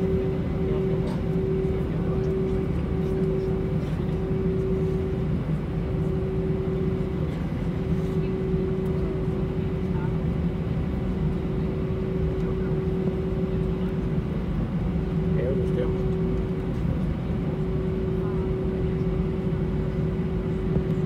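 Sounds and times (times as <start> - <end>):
aircraft cabin engine drone: 0.0 - 21.0.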